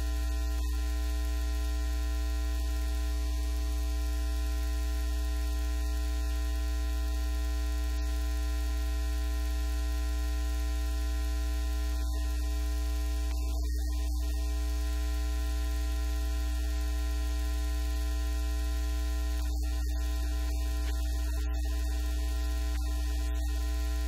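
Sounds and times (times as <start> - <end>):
electrical mains hum: 0.0 - 24.0
faint steady tones: 0.0 - 24.0.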